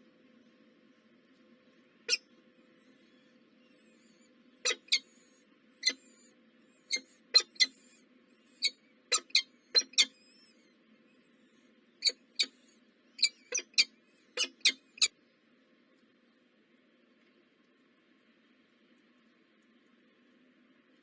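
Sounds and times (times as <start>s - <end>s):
faint steady hum: 0.0s - 21.0s
small birds chirping: 1.6s - 21.0s.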